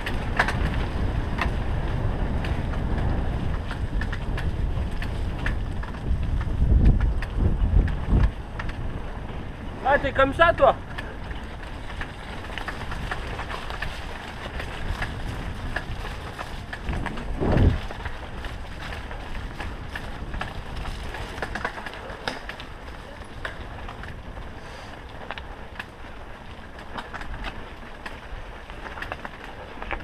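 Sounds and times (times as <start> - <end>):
bike tyres rumbling on dirt: 0.0 - 30.0
wind buffeting microphone: 0.0 - 30.0.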